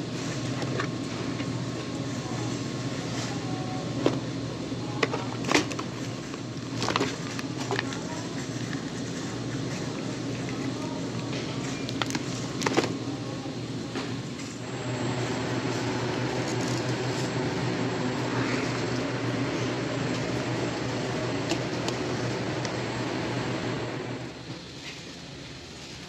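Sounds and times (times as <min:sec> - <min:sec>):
ventilation and refrigeration hum: 0:00.0 - 0:26.0.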